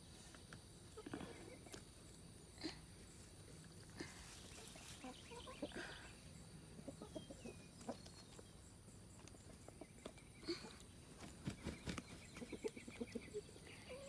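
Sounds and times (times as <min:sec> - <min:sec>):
chickens clucking: 0:00.3 - 0:14.0.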